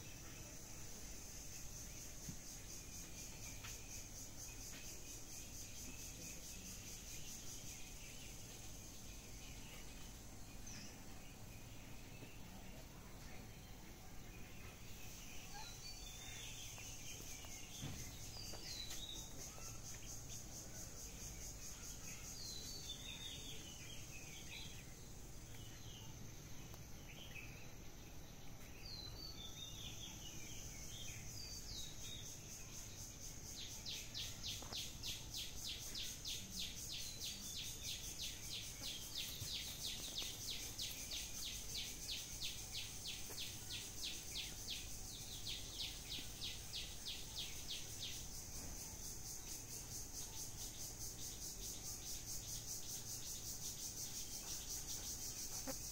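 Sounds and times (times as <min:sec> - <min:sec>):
insect whine and trill: 0:00.0 - 0:55.9
small birds chirping: 0:00.0 - 0:55.9.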